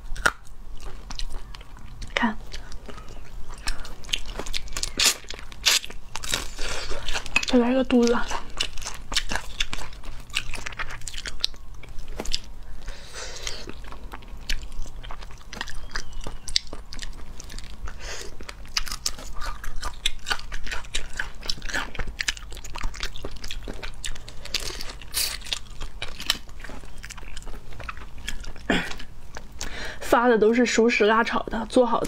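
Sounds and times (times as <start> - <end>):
wet chewing: 0.0 - 32.0.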